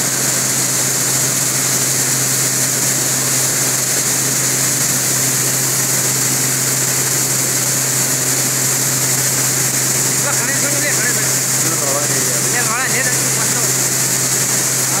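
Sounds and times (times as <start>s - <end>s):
machinery blowers rushing air: 0.0s - 15.0s
steady low hum: 0.0s - 15.0s.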